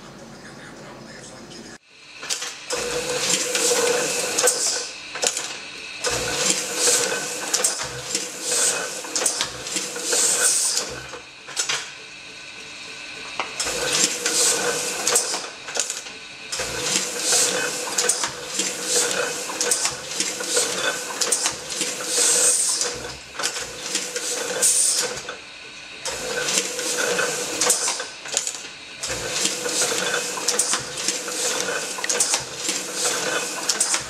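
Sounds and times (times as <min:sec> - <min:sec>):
steady machine hum: 0:00.0 - 0:34.0
printing press clattering: 0:02.2 - 0:34.0.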